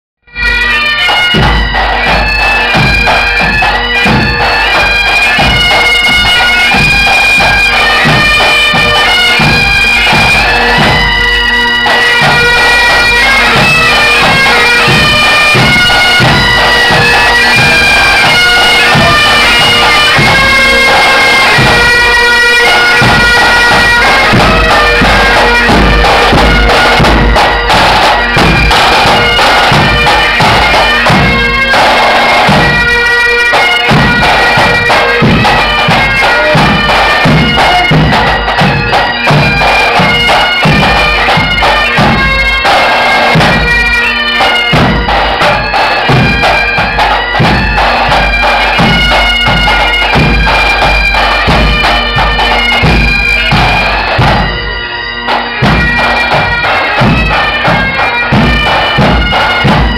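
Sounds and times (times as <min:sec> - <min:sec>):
bagpipes playing a tune: 0:00.3 - 0:59.9
snare and bass drums beating: 0:00.8 - 0:54.7, 0:55.3 - 0:59.9.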